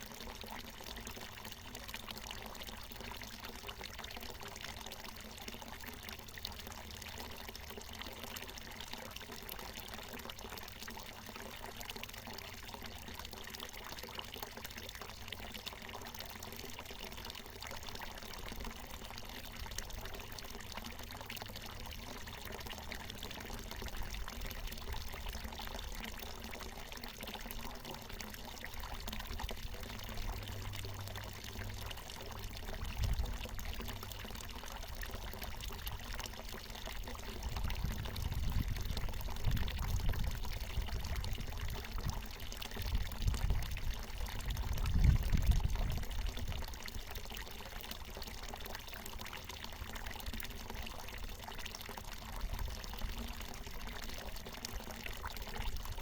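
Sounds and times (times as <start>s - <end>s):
spring water pouring and splashing: 0.0s - 56.0s.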